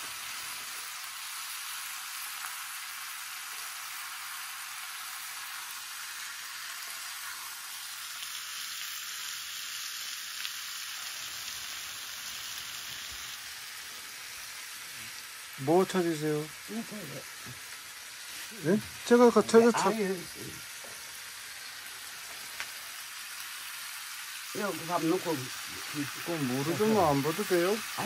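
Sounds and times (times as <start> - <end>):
food sizzling in frying pan: 0.0 - 28.0.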